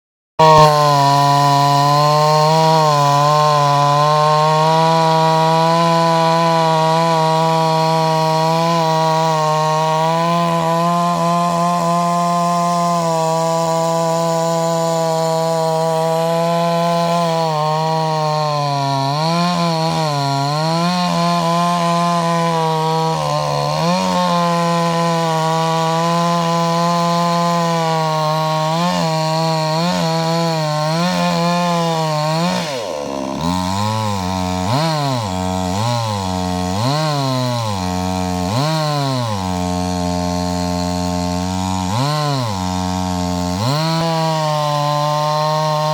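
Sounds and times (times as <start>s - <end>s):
chainsaw cutting wood: 0.4s - 45.9s.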